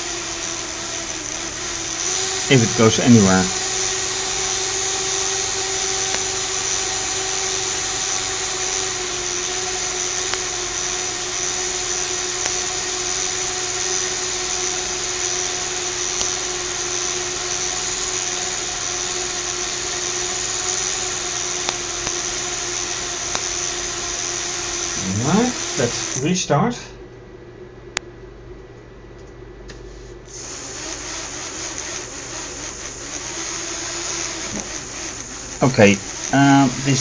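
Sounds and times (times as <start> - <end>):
small electric motors whirring: 0.0 - 26.4, 30.3 - 37.0.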